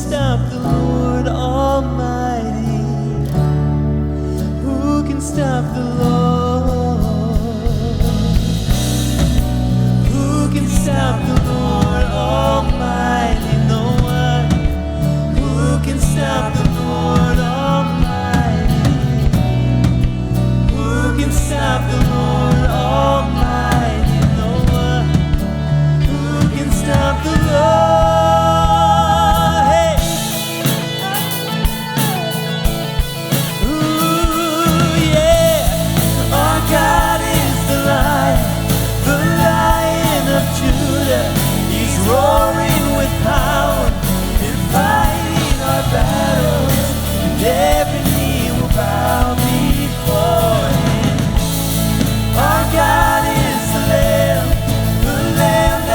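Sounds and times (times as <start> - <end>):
band playing worship song: 0.0 - 55.9
lead singer singing: 0.0 - 55.9.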